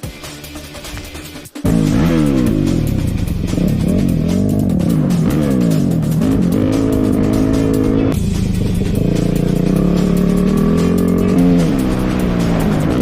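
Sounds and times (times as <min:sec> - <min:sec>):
motorcycle engine under load: 0:01.7 - 0:13.0.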